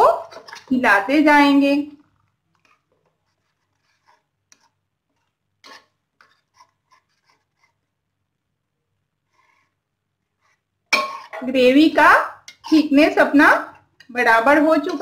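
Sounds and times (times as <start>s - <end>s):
spatula scraping a pan: 0.0s - 1.3s, 2.5s - 8.0s, 9.2s - 15.0s.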